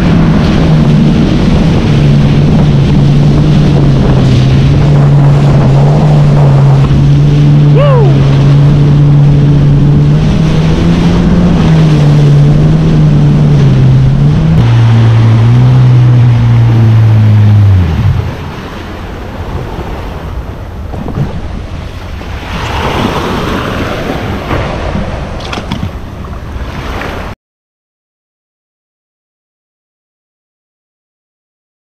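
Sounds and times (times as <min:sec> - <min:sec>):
jet ski engine running: 0:00.0 - 0:27.3
water noise: 0:00.0 - 0:27.4
wind: 0:00.0 - 0:27.4.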